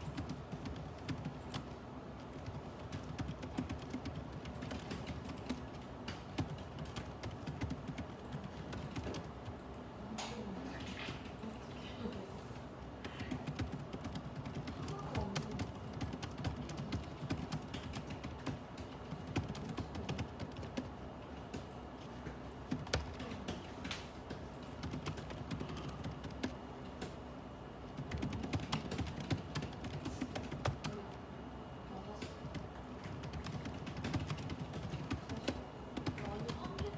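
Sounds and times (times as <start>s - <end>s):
typing on keyboard: 0.0s - 12.2s, 12.9s - 27.2s, 27.9s - 31.2s, 32.1s - 36.9s.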